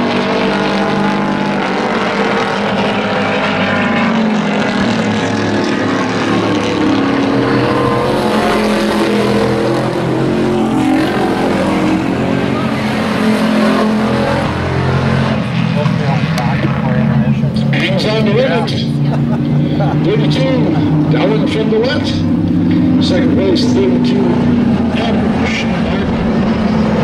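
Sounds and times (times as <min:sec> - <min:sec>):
race truck engines running hard: 0:00.0 - 0:27.0.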